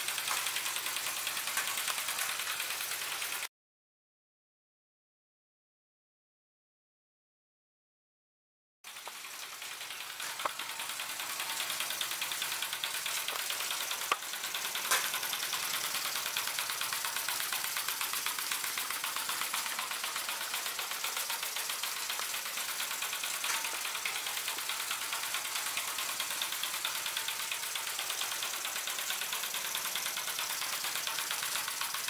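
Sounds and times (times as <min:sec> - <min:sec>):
steam engine chuffing and hissing: 0:00.0 - 0:03.5, 0:08.9 - 0:32.0
wheels and mechanism clattering: 0:00.0 - 0:03.5, 0:08.9 - 0:32.0.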